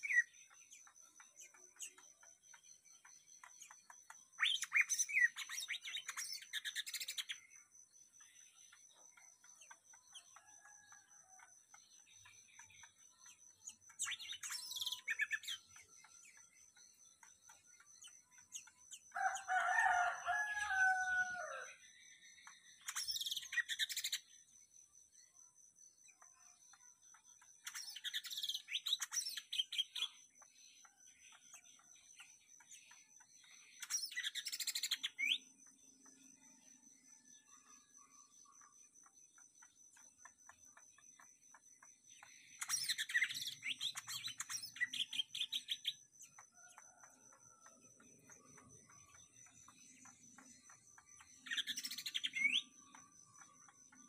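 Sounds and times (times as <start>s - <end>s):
faint high insect tone: 0.0s - 54.0s
songbird chirping: 0.0s - 54.0s.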